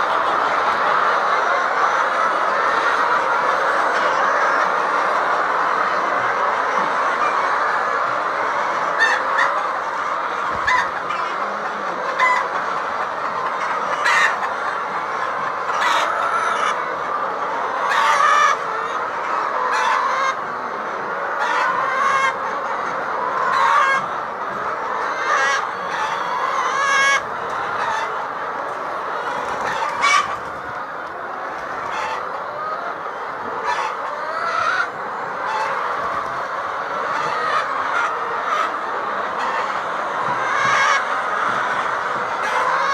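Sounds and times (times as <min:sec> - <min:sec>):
chickens clucking: 0:00.0 - 0:42.9
sharp chicken calls: 0:00.0 - 0:42.9.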